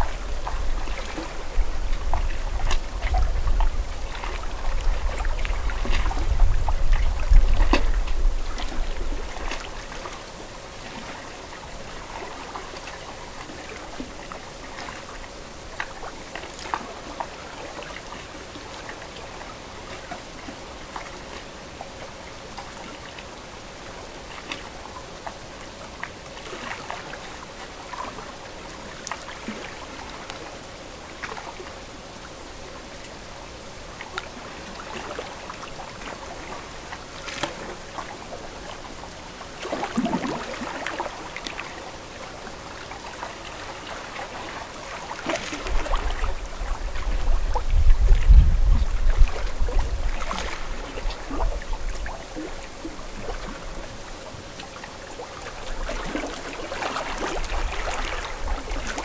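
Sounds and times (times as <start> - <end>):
small water splashes: 0.0 - 23.3, 24.2 - 31.7, 34.0 - 59.0
water lapping at shore: 0.0 - 59.0.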